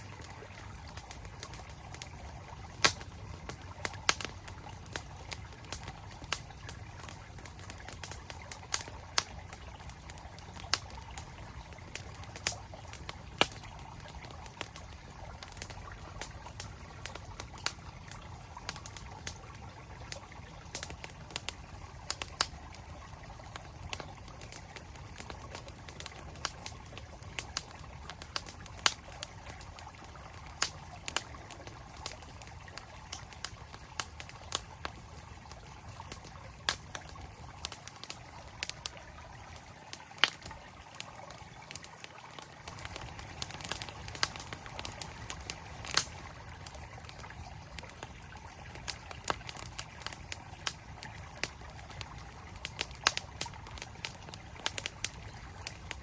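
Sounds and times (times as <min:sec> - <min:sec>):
campfire wood crackling: 0:00.0 - 0:56.0
flowing stream: 0:00.0 - 0:56.0.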